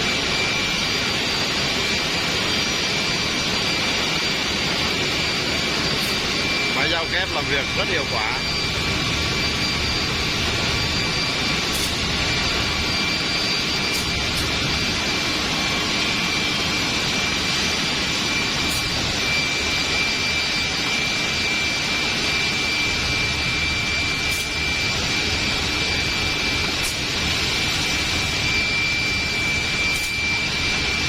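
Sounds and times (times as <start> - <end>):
drilling machine whine: 0.0 - 31.0.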